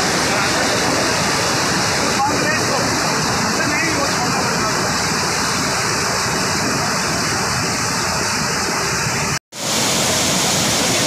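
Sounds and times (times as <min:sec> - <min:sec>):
rushing floodwater roar: 0:00.0 - 0:11.0.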